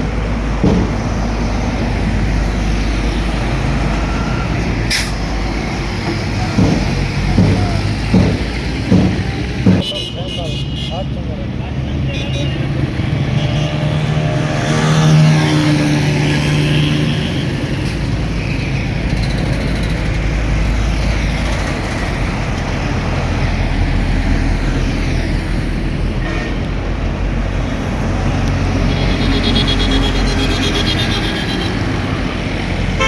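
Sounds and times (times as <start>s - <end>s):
heavy engine passing: 0.0s - 9.8s, 11.1s - 33.0s
road traffic rumble: 0.0s - 33.0s.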